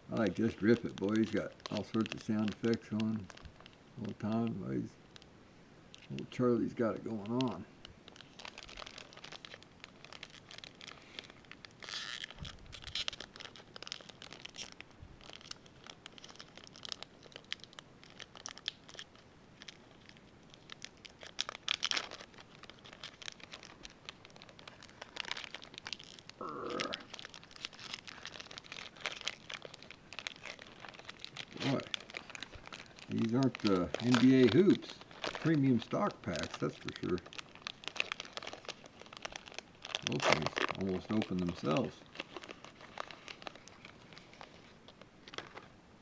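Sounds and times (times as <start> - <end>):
plastic wrappers crinkling: 0.0 - 5.3, 5.9 - 45.8
plastic wrapper ripping: 0.1 - 5.3, 5.9 - 45.8.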